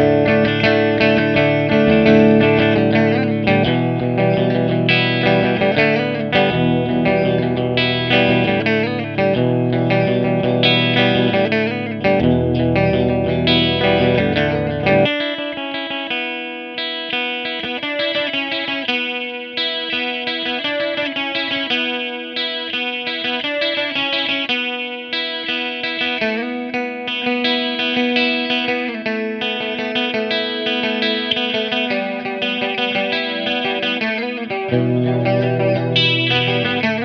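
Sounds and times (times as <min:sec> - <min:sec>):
electric guitar riff with chorus: 0:00.0 - 0:37.0.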